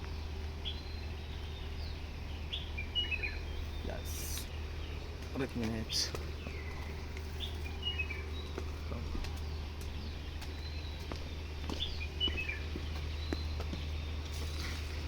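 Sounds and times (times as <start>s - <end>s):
birds twittering: 0.0s - 15.0s
steady low rumble: 0.0s - 15.0s.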